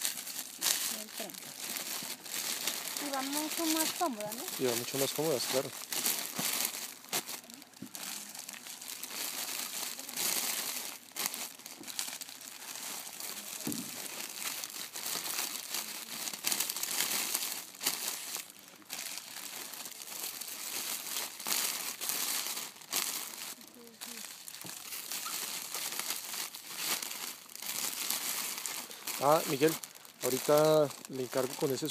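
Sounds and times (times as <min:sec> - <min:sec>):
plastic sleeves crinkling: 0:00.0 - 0:31.9.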